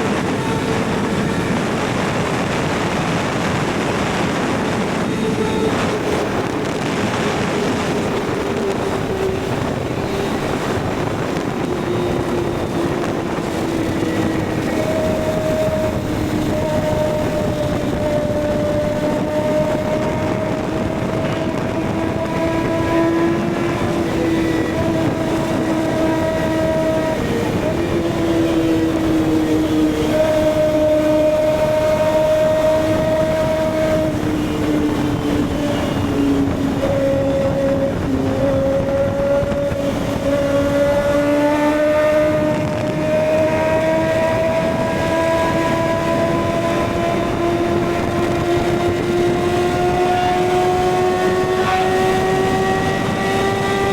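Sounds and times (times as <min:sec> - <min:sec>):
motorcycle engine at high revs: 0:00.0 - 0:53.9
wind and road noise: 0:00.0 - 0:53.9.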